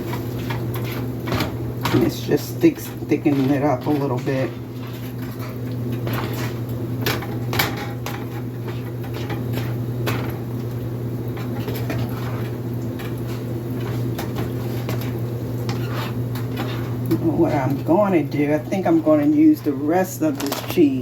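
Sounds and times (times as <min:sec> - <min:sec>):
spoon scraping a pan: 0:00.0 - 0:10.4, 0:11.3 - 0:20.8
steady low hum: 0:00.0 - 0:21.0.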